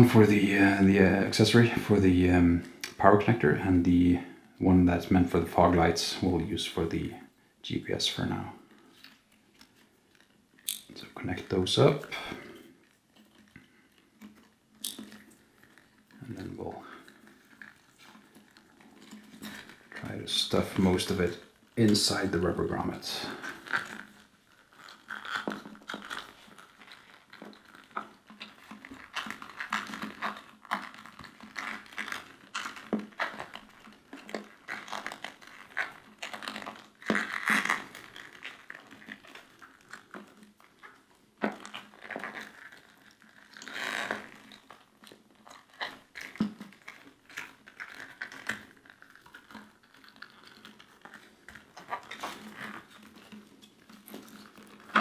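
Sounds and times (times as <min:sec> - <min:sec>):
rustling: 0:00.0 - 0:55.0.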